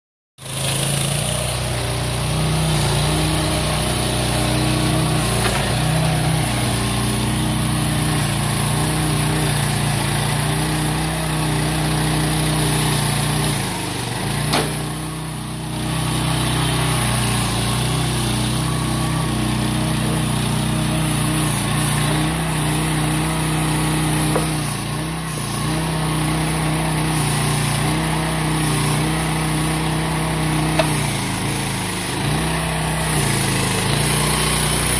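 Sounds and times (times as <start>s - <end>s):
excavator engine running: 0.4s - 34.9s.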